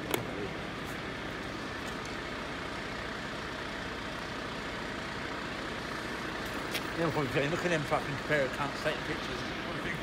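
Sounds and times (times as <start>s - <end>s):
large vehicle engine idling: 0.0s - 10.0s
street hum: 0.0s - 10.0s.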